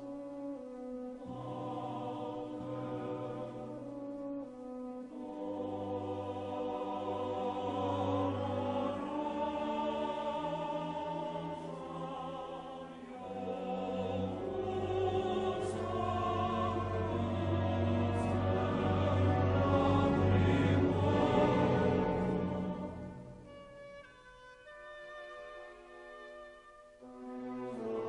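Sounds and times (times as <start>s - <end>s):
slow classical choral music: 0.0s - 28.0s.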